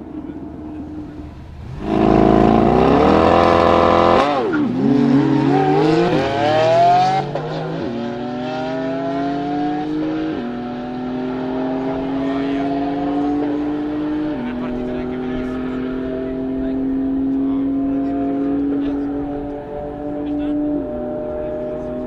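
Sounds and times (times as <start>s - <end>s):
sports car engines revving: 0.0s - 22.0s.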